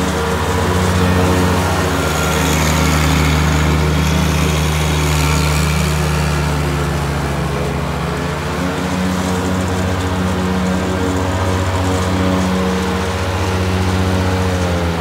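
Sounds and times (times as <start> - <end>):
mower diesel engine running: 0.0 - 15.0.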